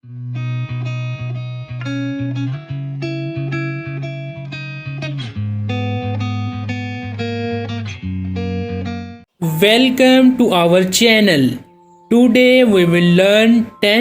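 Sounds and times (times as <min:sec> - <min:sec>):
plucked guitar melody: 0:00.1 - 0:14.0.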